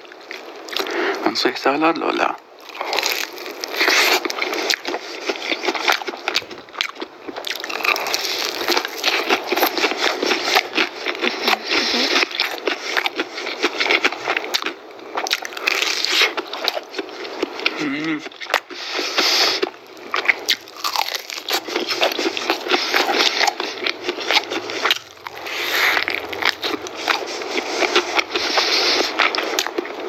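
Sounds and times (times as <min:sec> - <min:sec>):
crunching fried chicken: 0:00.1 - 0:30.0.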